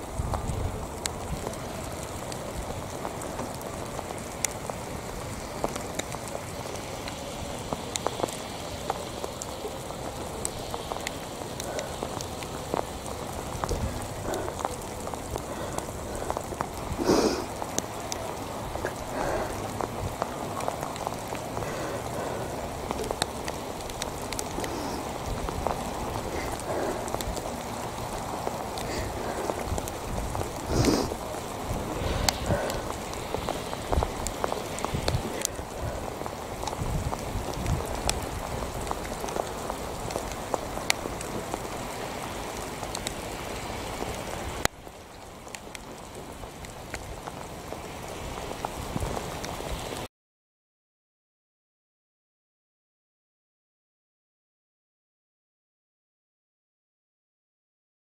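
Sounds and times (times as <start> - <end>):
rain falling: 0.0 - 50.1.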